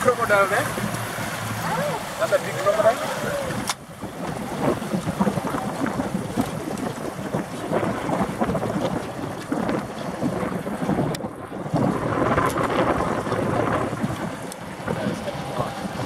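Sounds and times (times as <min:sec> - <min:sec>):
small boat engine running: 0:00.0 - 0:16.0
wind buffeting microphone: 0:00.0 - 0:16.0.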